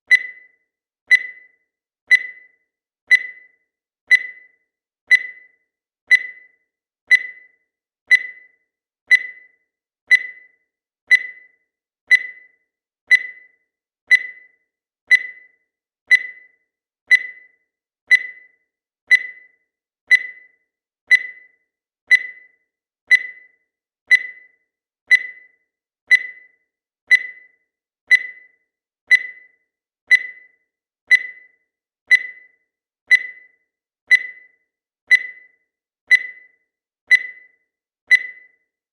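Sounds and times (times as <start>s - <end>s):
digital timer beeping: 0.0s - 38.9s.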